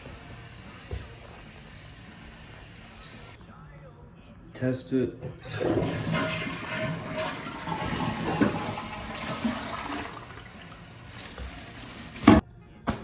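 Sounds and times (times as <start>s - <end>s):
toilet flushing: 0.0s - 3.4s, 5.3s - 12.4s.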